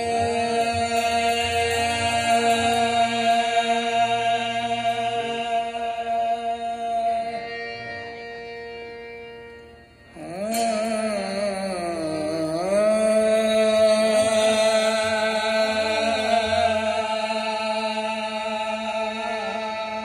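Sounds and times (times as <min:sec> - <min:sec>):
lead voice singing: 0:00.0 - 0:08.4, 0:10.1 - 0:20.0
harmonium chord: 0:00.0 - 0:20.0
person singing long note: 0:00.0 - 0:20.0.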